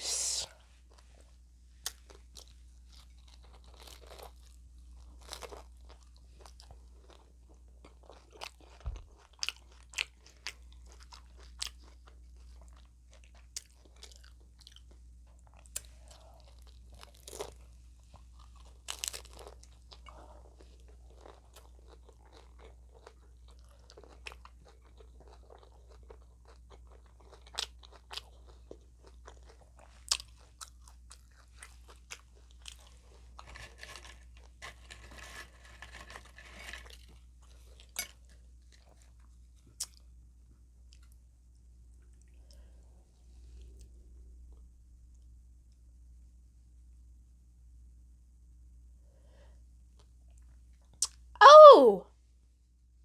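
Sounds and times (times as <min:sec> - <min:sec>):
chewing crunchy taco shells: 0:00.8 - 0:45.8, 0:49.4 - 0:51.3.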